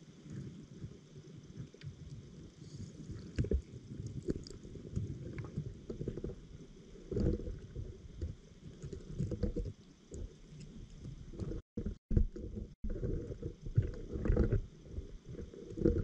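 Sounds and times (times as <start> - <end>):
muffled underwater water rumble: 0.0 - 16.0
faint clicks and ticks: 0.1 - 16.0.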